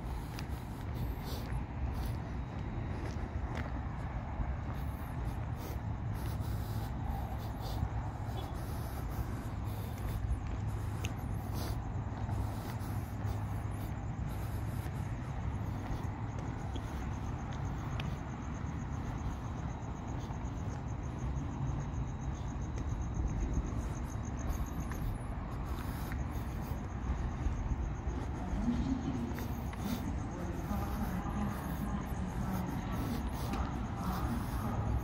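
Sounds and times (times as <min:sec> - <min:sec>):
crickets chirping: 0:00.0 - 0:35.0
low outdoor hum: 0:00.0 - 0:35.0.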